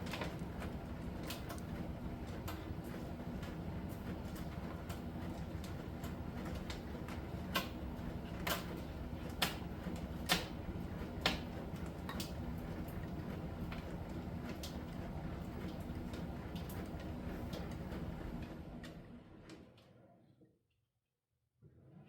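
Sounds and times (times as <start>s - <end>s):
dryer humming: 0.0s - 19.5s.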